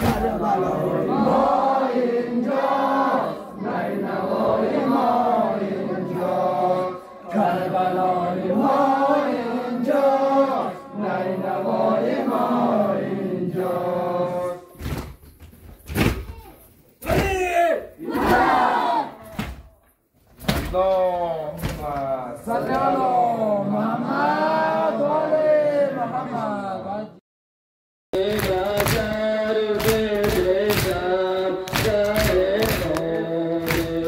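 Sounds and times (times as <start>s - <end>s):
young men chanting a lament: 0.0s - 14.8s, 17.0s - 19.2s, 20.7s - 27.1s, 28.2s - 34.0s.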